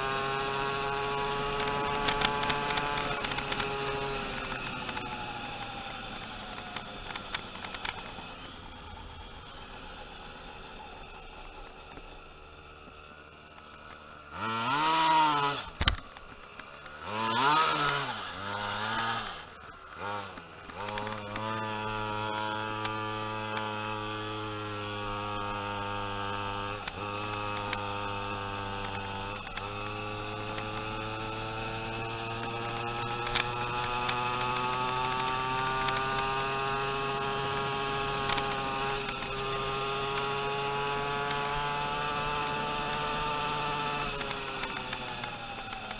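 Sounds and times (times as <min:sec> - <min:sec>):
small two-stroke engine revving: 0:00.0 - 0:45.9.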